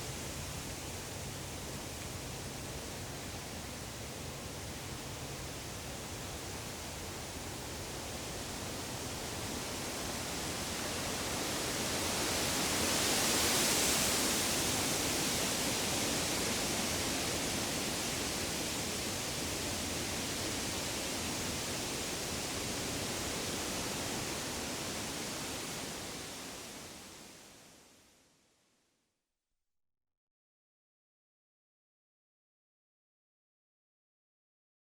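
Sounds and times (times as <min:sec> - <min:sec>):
woodland rushing hiss: 0:00.0 - 0:28.2.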